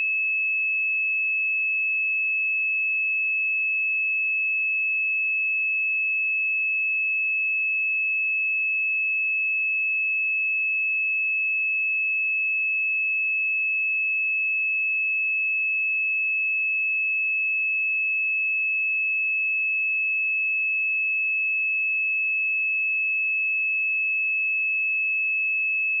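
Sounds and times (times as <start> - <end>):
sine wave test tone: 0.0 - 26.0.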